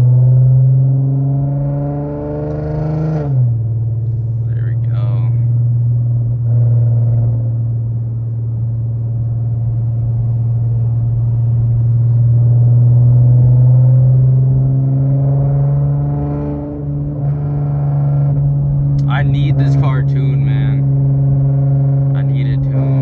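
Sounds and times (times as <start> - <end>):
car exhaust droning while driving: 0.0 - 23.0.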